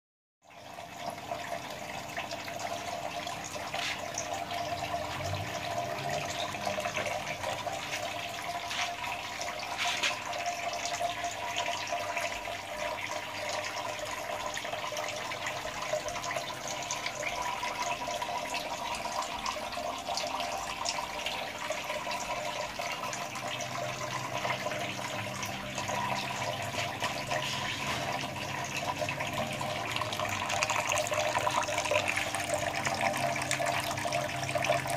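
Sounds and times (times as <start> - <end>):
water trickling and splashing: 0.4 - 34.9
steady pump hum: 0.6 - 34.9.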